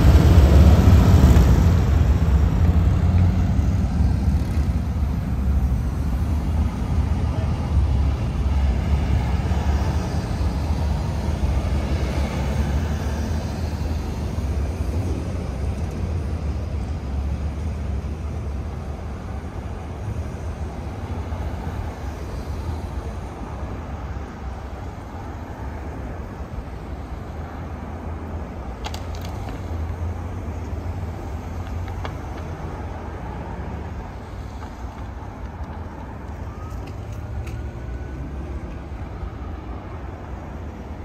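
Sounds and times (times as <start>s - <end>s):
road vehicles rumbling past: 0.0s - 41.0s.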